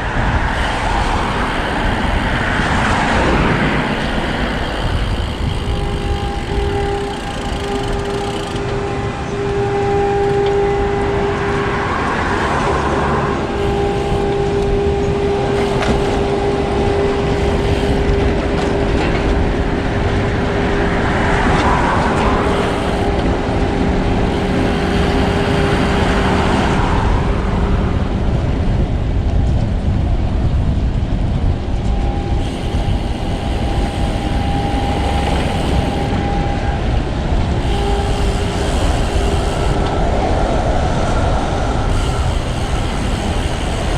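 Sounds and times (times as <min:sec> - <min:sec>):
constant hum: 0:00.0 - 0:43.9
passing traffic: 0:00.0 - 0:43.9
wind and road noise: 0:00.0 - 0:43.9.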